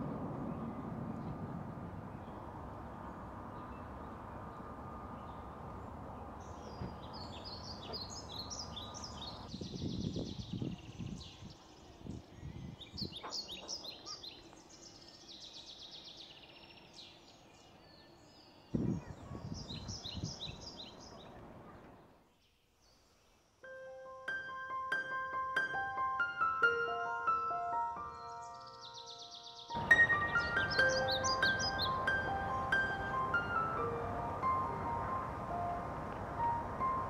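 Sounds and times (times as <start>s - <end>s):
outdoor background noise: 0.0s - 37.0s
small birds chirping: 0.4s - 23.6s, 26.7s - 35.5s.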